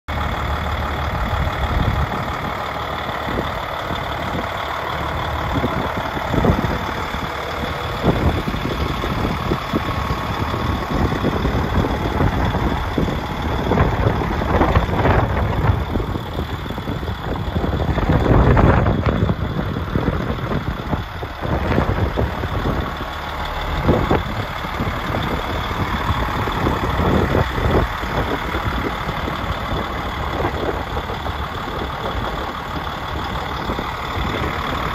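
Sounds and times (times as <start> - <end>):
diesel truck engine idling: 0.1 - 34.9
wind buffeting microphone: 0.2 - 34.9.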